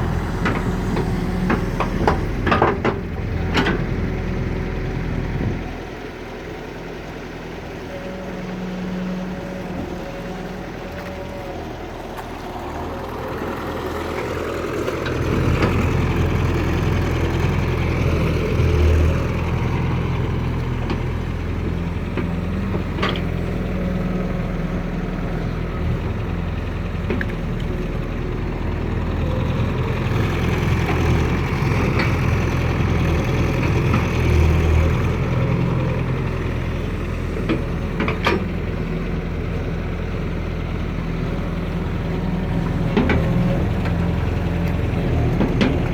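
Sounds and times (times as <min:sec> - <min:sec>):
excavator diesel engine working: 0:00.0 - 0:45.9.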